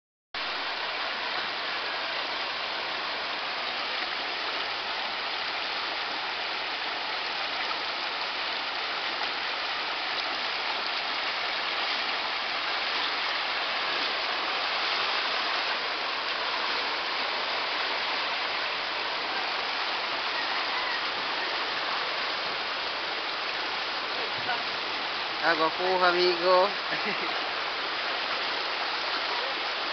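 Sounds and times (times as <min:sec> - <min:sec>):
floodwater rushing: 0:00.4 - 0:29.9.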